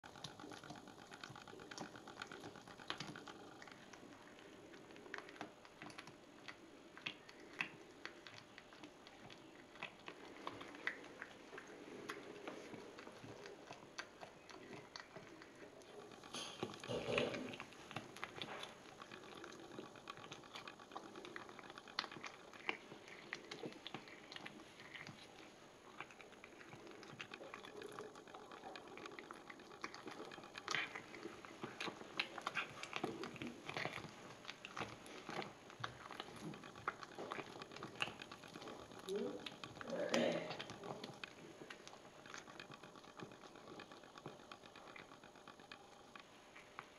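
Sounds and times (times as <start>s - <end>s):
cat chewing and crunching: 0.0s - 46.9s.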